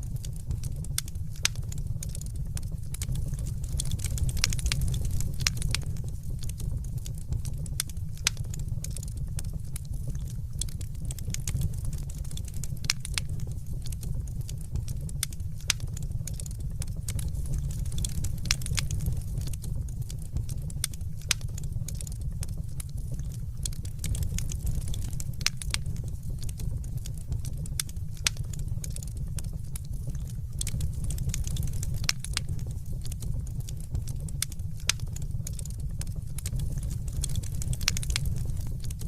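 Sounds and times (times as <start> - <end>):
fire pops and snaps: 0.0 - 39.0
low rumble of burning: 0.0 - 39.0.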